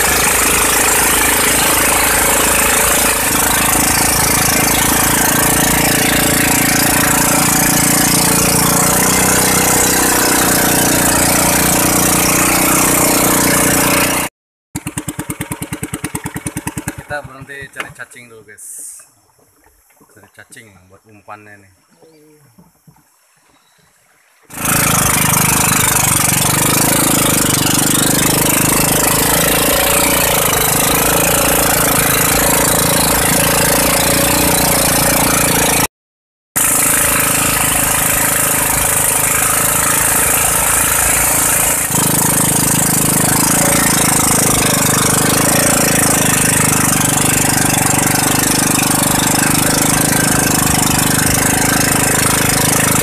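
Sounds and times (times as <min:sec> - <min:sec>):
outboard engine running: 0:00.0 - 0:23.8, 0:24.4 - 0:35.9, 0:36.6 - 0:53.0.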